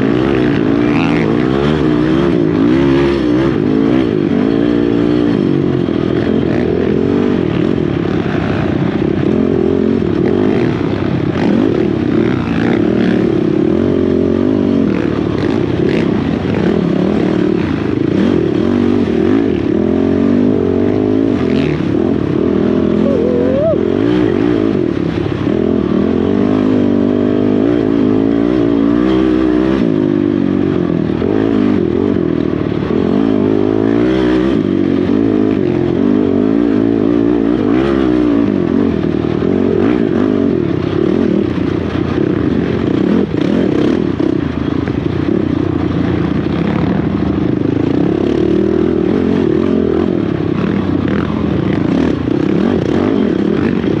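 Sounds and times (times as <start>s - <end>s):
quad engine revving: 0.0s - 44.5s.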